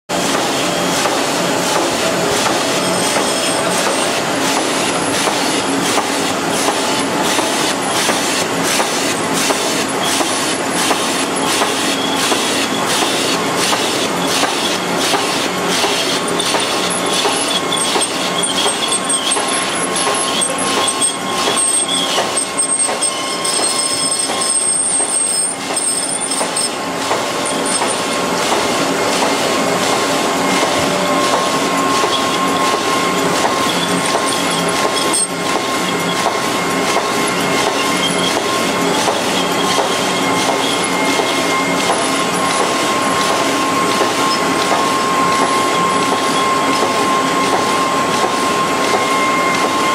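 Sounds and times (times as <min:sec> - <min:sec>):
machine clattering: 0:00.1 - 0:49.9
rapid mechanical ticking: 0:00.2 - 0:49.8.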